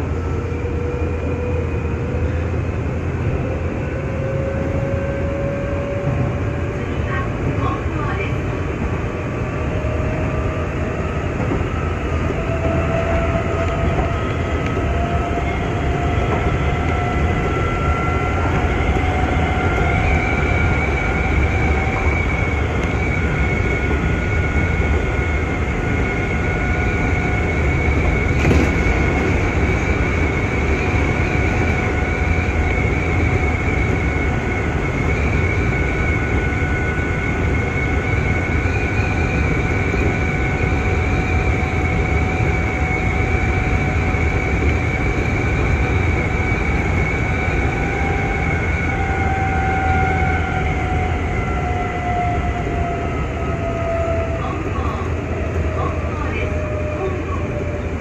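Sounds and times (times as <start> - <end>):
electric train running noise: 0.0 - 58.0.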